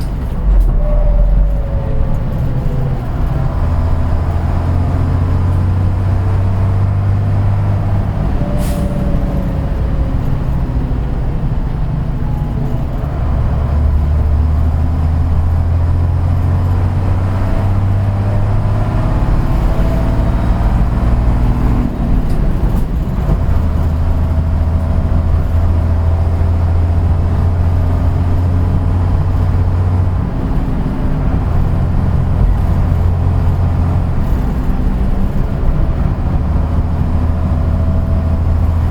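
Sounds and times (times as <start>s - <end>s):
bus engine humming: 0.0s - 38.9s.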